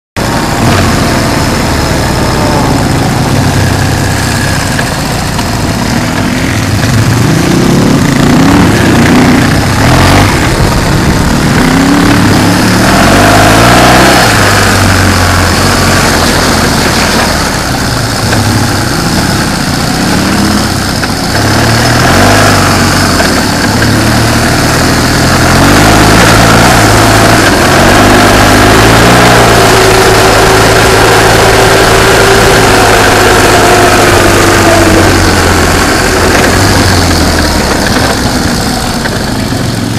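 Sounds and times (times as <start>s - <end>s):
motorcycle engine: 0.2s - 39.9s.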